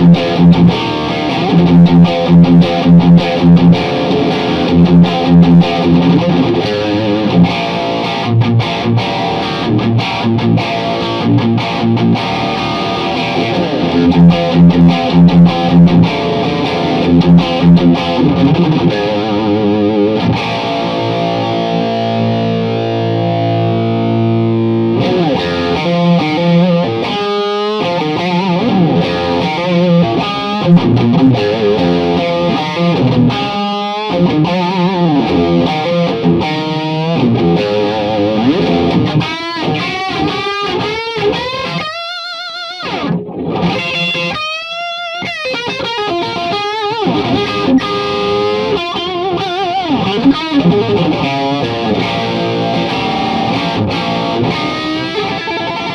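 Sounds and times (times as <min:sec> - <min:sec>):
distorted electric guitar: 0:00.0 - 0:55.9.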